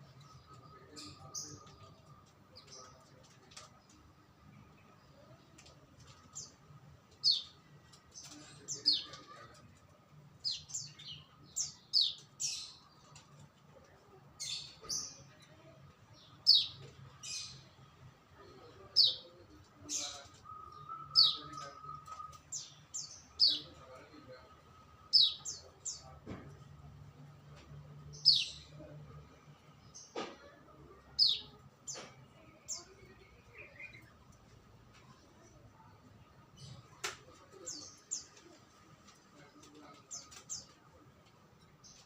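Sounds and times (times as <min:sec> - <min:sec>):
songbird chirping: 0:00.0 - 0:42.0.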